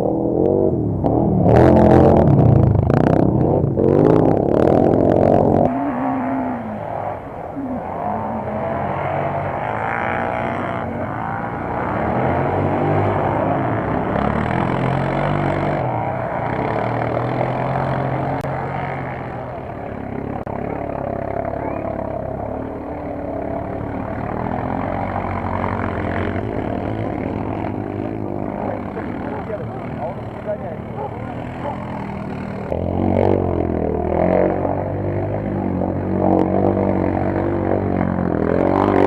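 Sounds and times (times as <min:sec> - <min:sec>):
off-road vehicle engines revving: 0:00.0 - 0:39.0.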